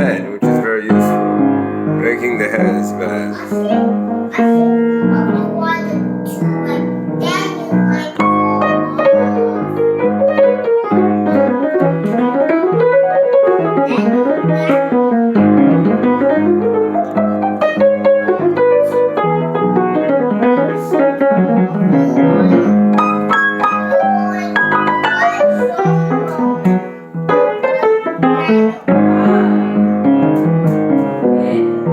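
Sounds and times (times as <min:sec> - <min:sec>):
piano playing quick runs: 0:00.0 - 0:31.9.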